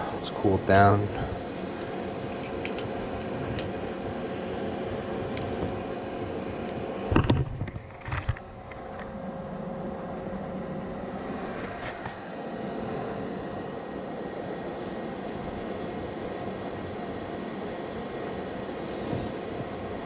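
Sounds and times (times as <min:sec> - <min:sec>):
faint steady hum: 0:00.0 - 0:20.0
furnace fan running: 0:00.0 - 0:20.0.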